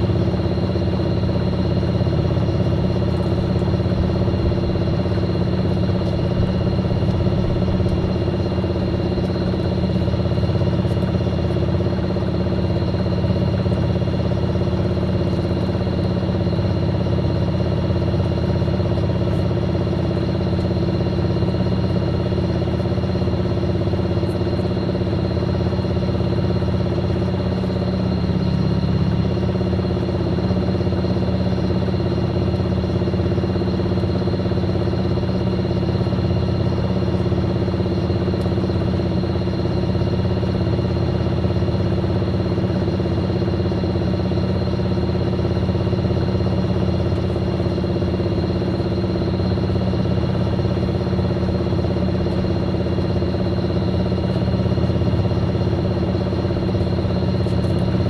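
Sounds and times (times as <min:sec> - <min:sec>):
washing machine spinning hum: 0:00.0 - 0:58.0.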